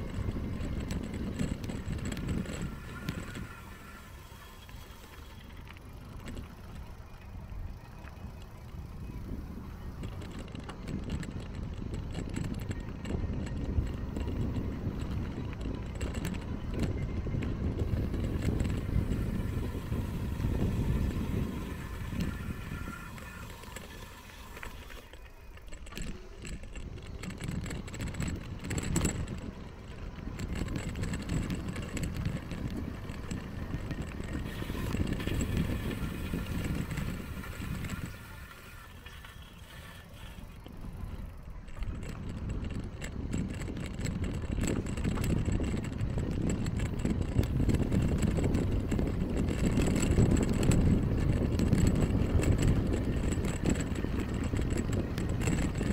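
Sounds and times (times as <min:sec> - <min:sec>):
tyres rolling on paved path: 0:00.0 - 0:55.9
wind buffeting microphone: 0:00.0 - 0:55.9.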